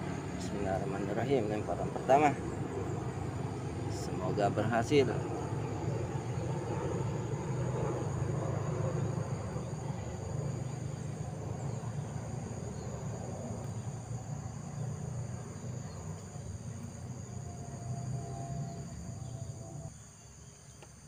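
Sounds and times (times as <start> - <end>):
steady low rumble: 0.0 - 19.9
insects droning: 0.0 - 21.0.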